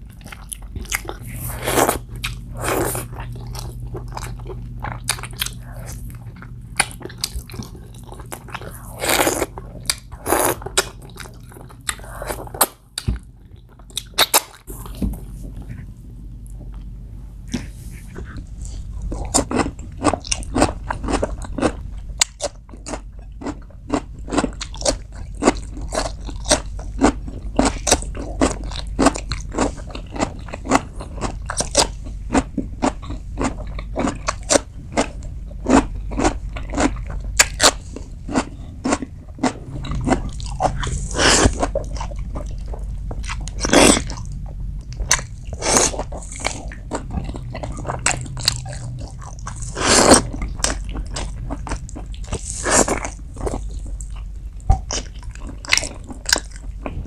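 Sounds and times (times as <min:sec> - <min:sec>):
crunching cucumber being chewed: 0:00.0 - 0:15.7, 0:17.5 - 0:57.0.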